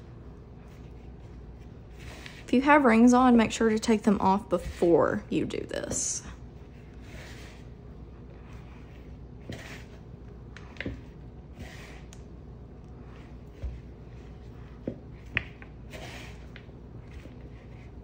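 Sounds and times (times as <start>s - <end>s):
hands kneading dough: 0.0s - 18.0s.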